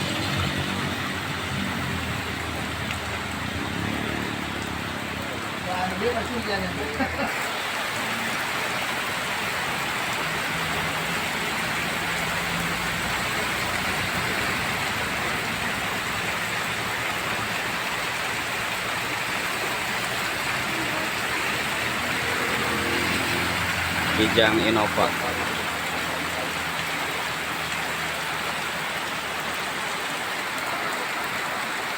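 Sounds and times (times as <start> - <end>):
faint vehicle engine: 0.0 - 31.9
heavy rain on a road: 0.0 - 31.9.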